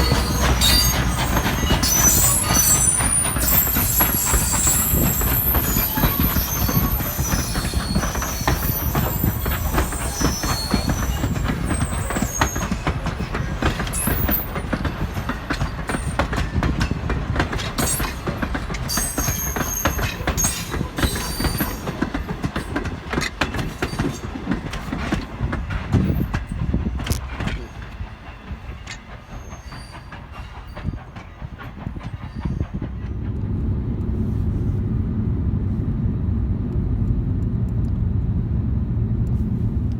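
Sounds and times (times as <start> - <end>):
train wheels squealing: 0.0 - 33.2
train wheels clicking over rail joints: 0.0 - 34.2.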